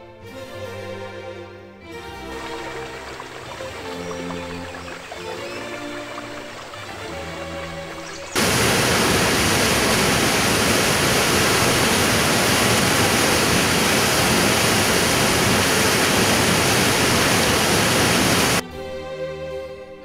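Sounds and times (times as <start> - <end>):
water rushing over a weir: 2.3 - 18.6.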